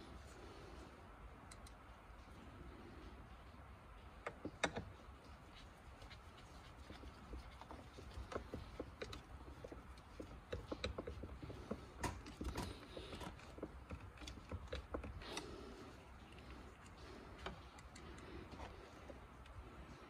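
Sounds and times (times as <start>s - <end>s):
small clicks and taps: 1.4s - 1.8s, 4.0s - 20.0s.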